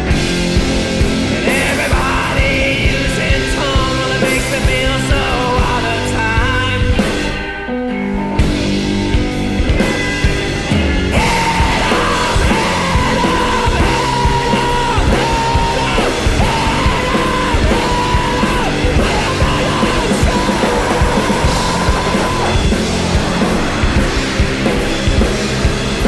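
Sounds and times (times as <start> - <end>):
drums: 0.0 - 26.0
rock band playing live: 0.0 - 26.0.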